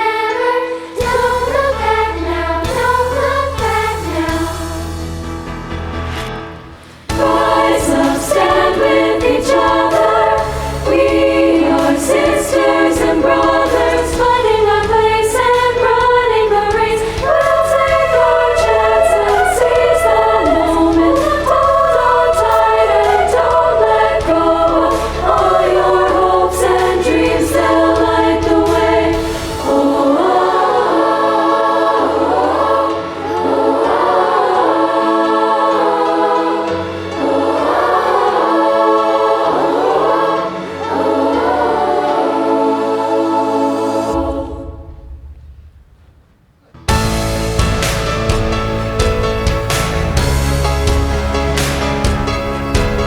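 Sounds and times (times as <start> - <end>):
girls' choir singing: 0.0 - 5.0, 7.1 - 45.4.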